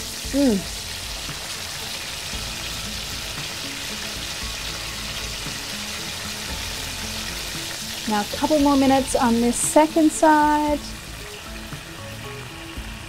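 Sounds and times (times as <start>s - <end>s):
chicken sizzling in hot oil: 0.0s - 13.0s
faint background music: 0.0s - 13.0s.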